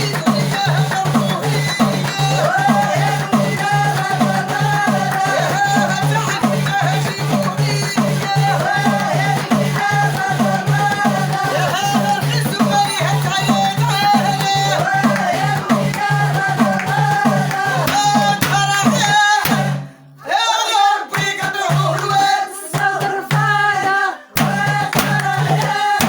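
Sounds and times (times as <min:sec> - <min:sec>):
steady beat and bass: 0:00.0 - 0:19.8, 0:24.4 - 0:26.0
woman singing with group: 0:00.0 - 0:26.0.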